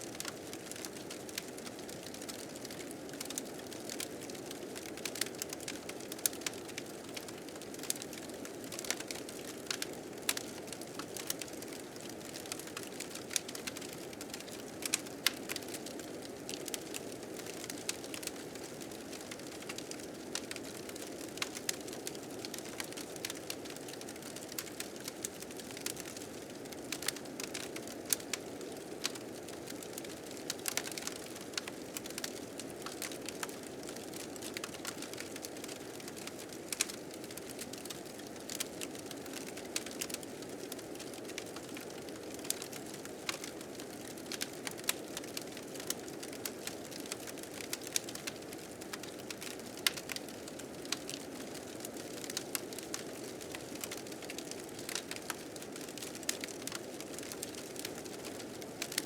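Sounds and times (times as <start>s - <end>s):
wood fire crackling: 0.1s - 59.0s
sharp fire snaps: 0.2s - 57.9s.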